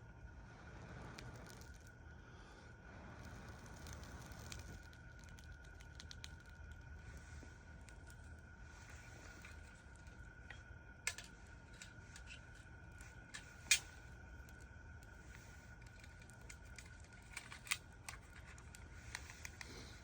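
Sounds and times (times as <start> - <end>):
tinder crackling: 0.7 - 2.2, 2.8 - 20.0.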